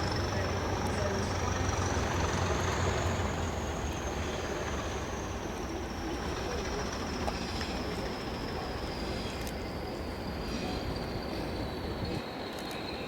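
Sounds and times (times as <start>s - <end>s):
train rumbling: 0.0s - 12.5s.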